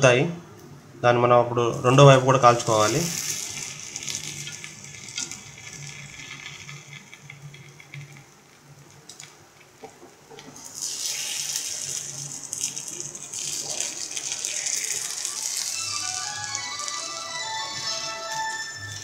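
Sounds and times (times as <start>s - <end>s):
batter sizzling in oil: 2.2s - 19.0s.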